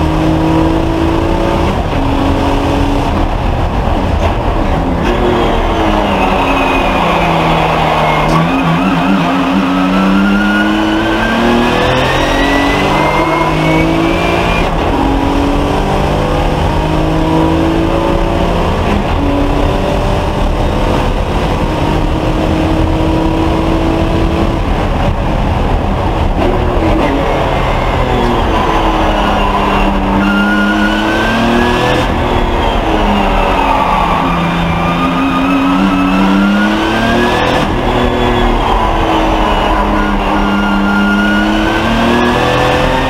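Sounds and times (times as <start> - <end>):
race car engine accelerating: 0.0 - 43.0.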